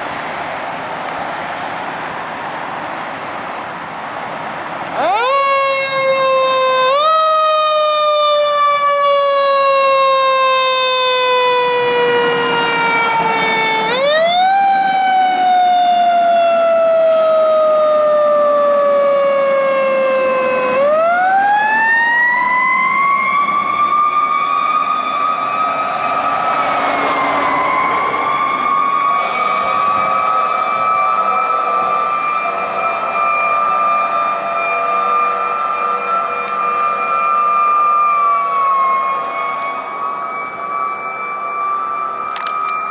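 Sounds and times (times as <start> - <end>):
fire engine siren wailing: 0.0 - 42.9.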